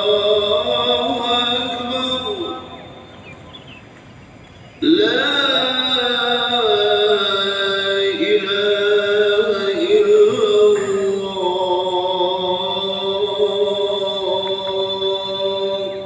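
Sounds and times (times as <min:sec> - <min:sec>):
man chanting call to prayer: 0:00.0 - 0:03.3, 0:04.8 - 0:16.0.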